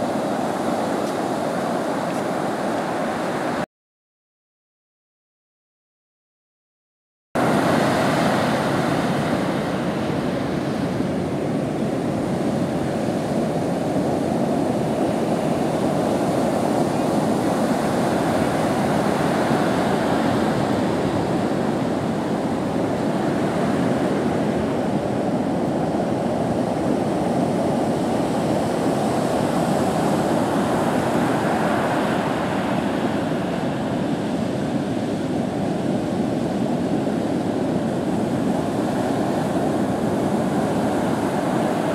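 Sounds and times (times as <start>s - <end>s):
surf washing up beach: 0.0s - 3.7s, 7.4s - 41.9s.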